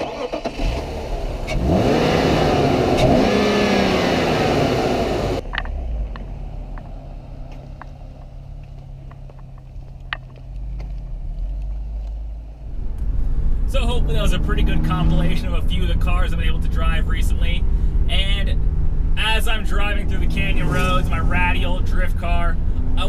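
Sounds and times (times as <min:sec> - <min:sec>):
car engine driving off: 0:00.0 - 0:23.0
car engine revving: 0:00.0 - 0:23.0.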